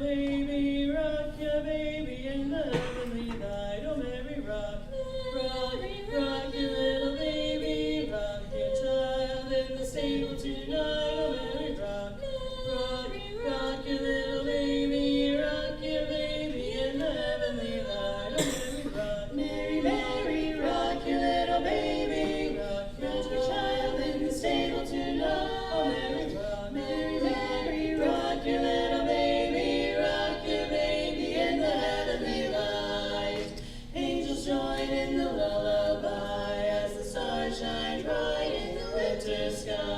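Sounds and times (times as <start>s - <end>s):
a cappella group singing in harmony: 0.0s - 39.9s.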